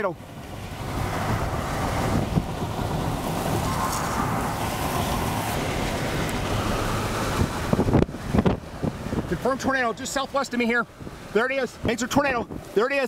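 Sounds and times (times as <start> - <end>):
vehicle road noise: 0.0 - 13.0
strong wind rushing: 0.2 - 12.8.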